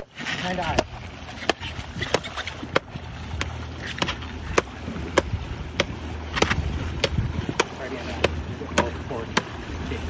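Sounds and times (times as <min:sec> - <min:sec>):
boat engine humming: 0:00.0 - 0:10.0
sharp knocks on boat side: 0:00.6 - 0:09.6.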